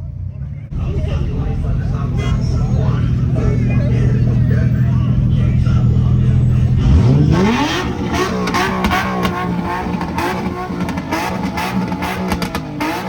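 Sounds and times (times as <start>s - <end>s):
car engine revving high: 0.7s - 13.0s
exhaust pops crackling: 0.7s - 13.0s
guitar music: 0.7s - 13.0s.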